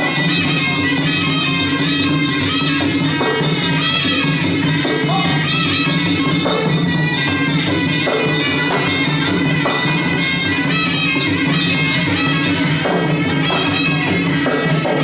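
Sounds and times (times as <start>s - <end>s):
drums: 0.0s - 15.0s
oboe melody: 0.0s - 15.0s
steady held tones: 0.0s - 15.0s.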